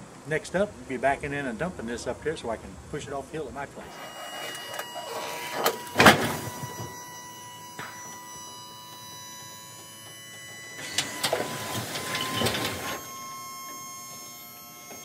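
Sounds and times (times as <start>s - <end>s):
hydraulic pump whining: 0.0s - 15.0s.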